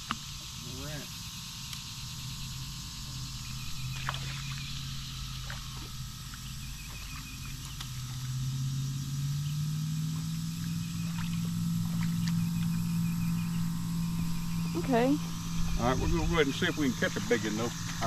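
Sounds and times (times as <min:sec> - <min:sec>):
buzzing insect chorus: 0:00.0 - 0:18.0
low motor hum: 0:00.0 - 0:18.0.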